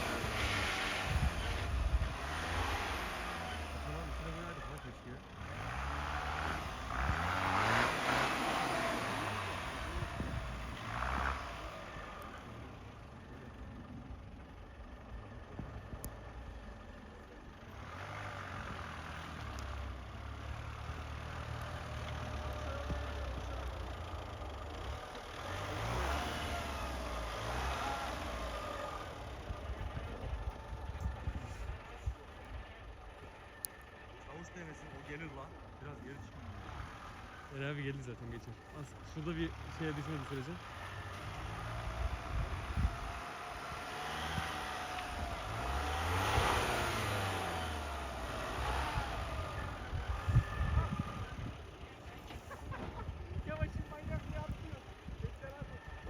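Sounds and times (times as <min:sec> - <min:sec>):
pickup engine revving: 0:00.0 - 0:13.6, 0:17.6 - 0:32.4, 0:35.2 - 0:55.6.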